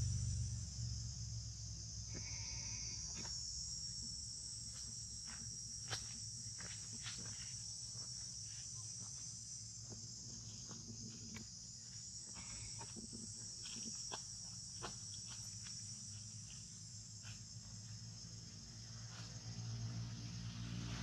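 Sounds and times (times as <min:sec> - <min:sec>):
faint low hum: 0:00.0 - 0:20.3
high-pitched insect chorus: 0:00.0 - 0:21.0.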